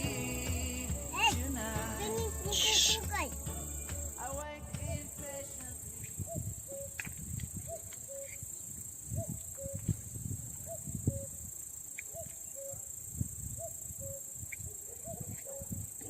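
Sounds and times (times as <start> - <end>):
high insect trill: 0.0 - 14.6.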